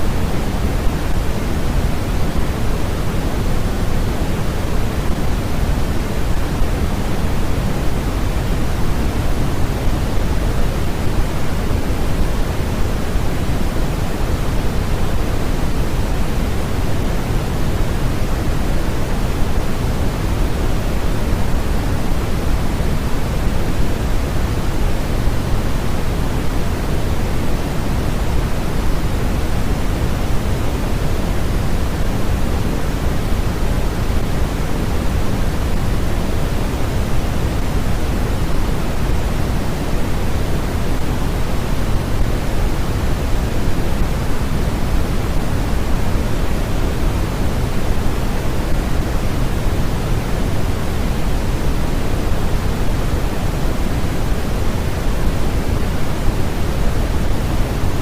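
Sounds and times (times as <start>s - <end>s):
steady rushing noise hiss: 0.0s - 58.0s.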